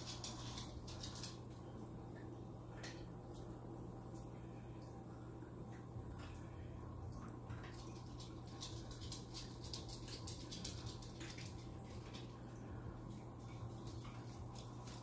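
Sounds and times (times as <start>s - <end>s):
low pump hum: 0.0s - 15.0s.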